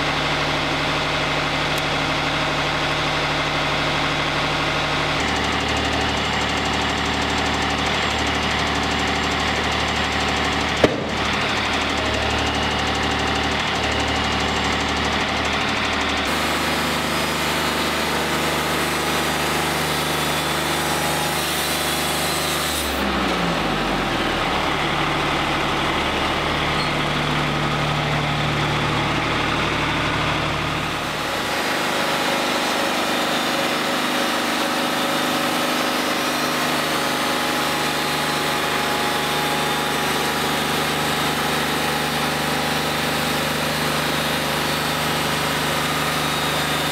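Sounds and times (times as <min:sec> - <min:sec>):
portable sawmill sawing timber: 0:00.0 - 0:46.9.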